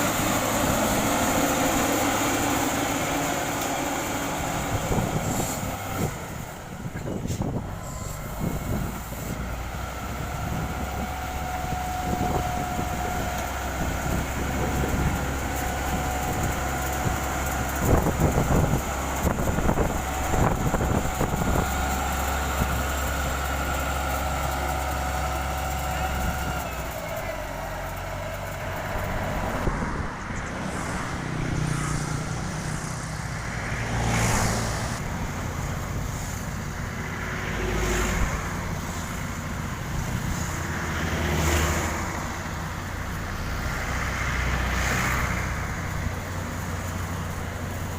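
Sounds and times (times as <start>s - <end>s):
diesel engine drone: 0.0s - 47.9s.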